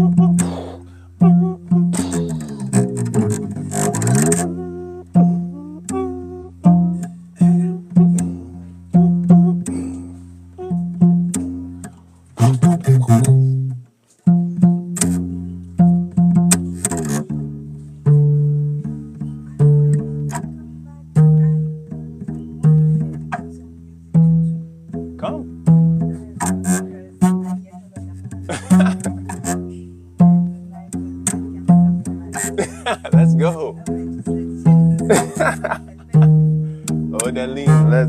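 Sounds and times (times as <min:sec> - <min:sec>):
plucked bass notes: 0:00.0 - 0:38.0.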